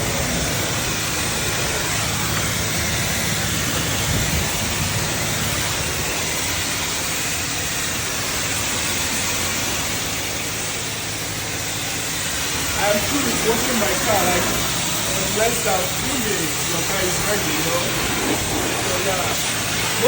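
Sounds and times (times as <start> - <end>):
high-pressure water spraying: 0.0 - 20.0
low pump hum: 0.0 - 20.0.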